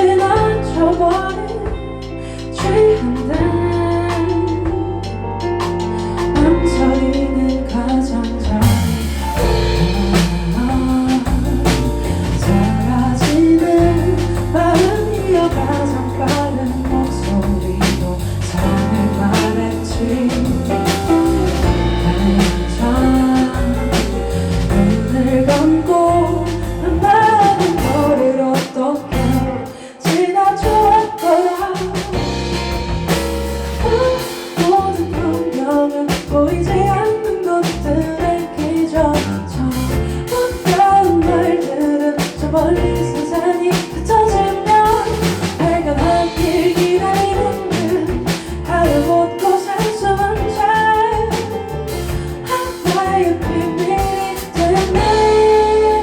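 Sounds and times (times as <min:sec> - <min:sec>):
band with drums and guitar: 0:00.0 - 0:56.0
woman singing pop ballad: 0:00.0 - 0:56.0.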